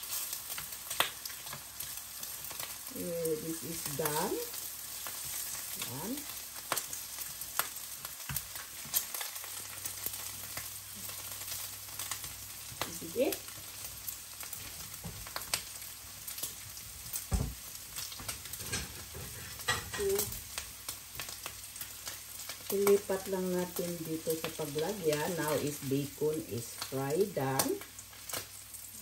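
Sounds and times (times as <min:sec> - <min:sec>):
bacon sizzling in a pan: 0:00.0 - 0:29.0.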